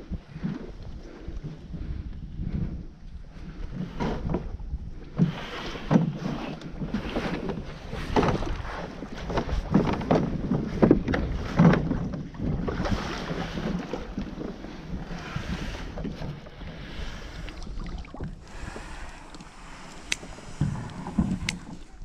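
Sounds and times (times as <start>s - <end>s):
knocks and thumps of small boat: 0.0s - 22.0s
wind on microphone: 0.0s - 22.0s.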